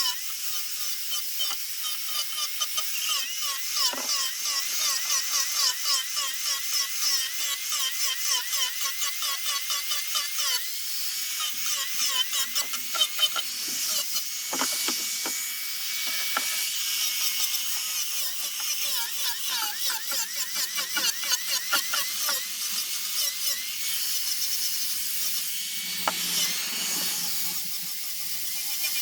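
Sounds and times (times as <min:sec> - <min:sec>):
rotary power tool sanding wood: 0:00.0 - 0:29.0.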